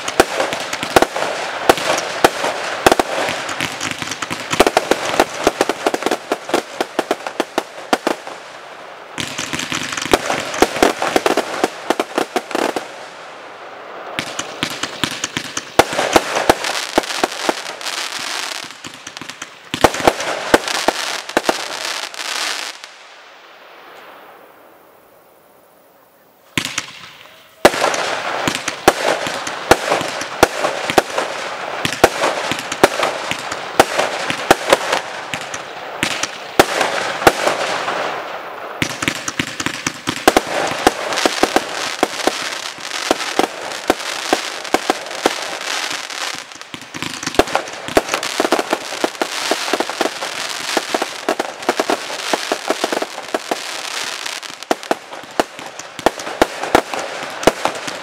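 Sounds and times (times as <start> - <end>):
fireworks bangs and crackling: 0.0 - 25.1, 26.4 - 58.0.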